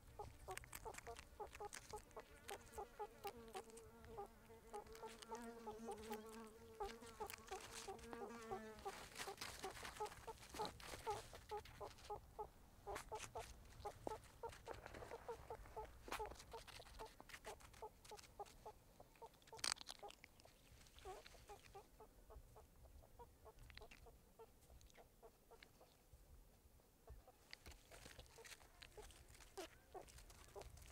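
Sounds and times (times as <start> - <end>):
meerkats clucking: 0.0 - 26.0, 27.0 - 30.9.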